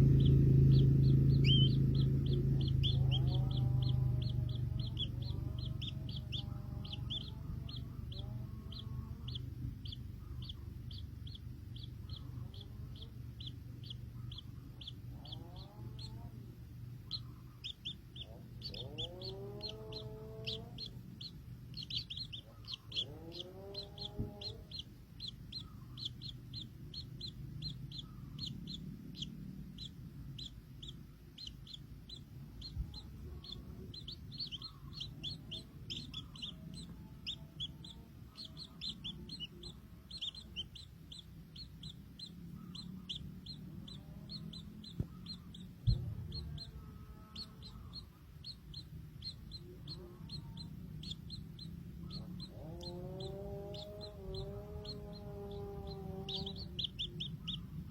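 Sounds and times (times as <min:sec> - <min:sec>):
baby birds peeping: 0:00.0 - 0:57.9
lower longer bird calls: 0:00.0 - 0:57.9.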